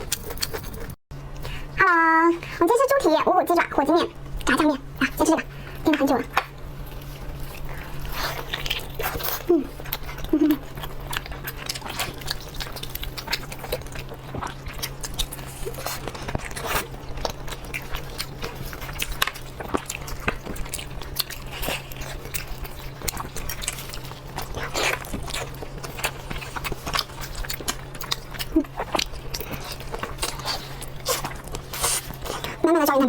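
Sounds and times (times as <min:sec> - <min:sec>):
person chewing and biting: 0:00.0 - 0:01.0, 0:06.5 - 0:32.6.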